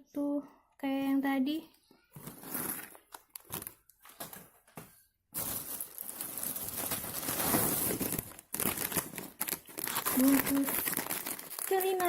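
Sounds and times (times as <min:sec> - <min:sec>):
plastic packets crinkling: 0:02.2 - 0:12.0.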